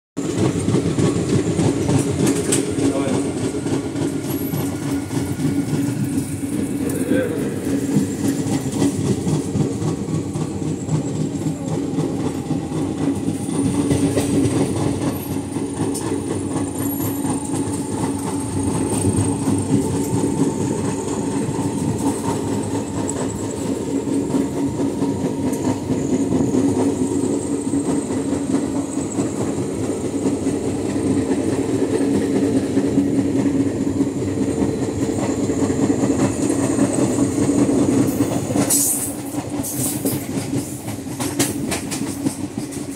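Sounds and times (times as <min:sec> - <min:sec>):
low train rumble: 0:00.2 - 0:42.9
rail clatter: 0:00.2 - 0:42.9.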